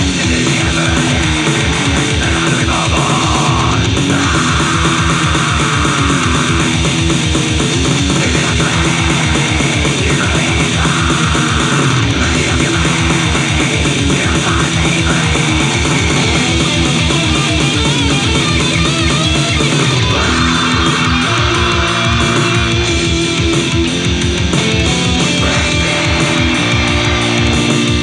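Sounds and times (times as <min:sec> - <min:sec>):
bass guitar: 0:00.0 - 0:28.0
distorted electric guitars: 0:00.0 - 0:28.0
drums: 0:00.0 - 0:28.0.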